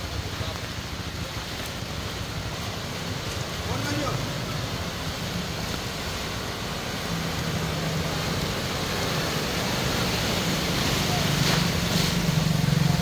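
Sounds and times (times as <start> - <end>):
car splashing through floodwater: 0.0 - 13.0.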